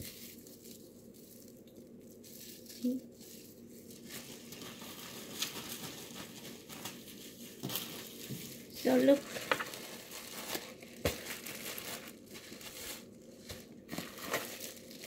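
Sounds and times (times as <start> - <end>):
plastic bag crinkling: 0.0 - 15.0
plastic wrap rustling: 0.0 - 15.0.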